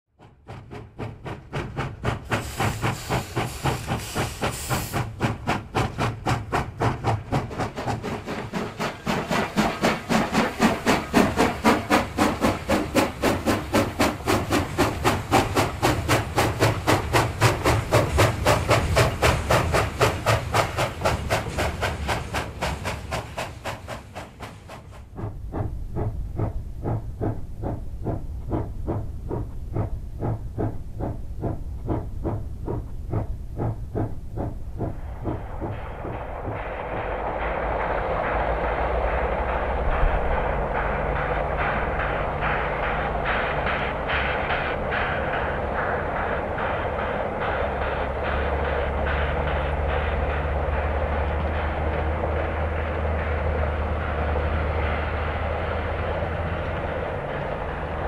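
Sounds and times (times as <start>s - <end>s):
steam locomotive chuffing: 0.2s - 58.0s
steam hissing: 0.5s - 58.0s.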